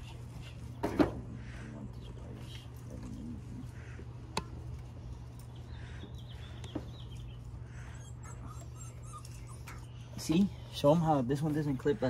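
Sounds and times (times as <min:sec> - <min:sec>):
faint bird calls: 0:00.0 - 0:12.0
steady low hum: 0:00.0 - 0:12.0.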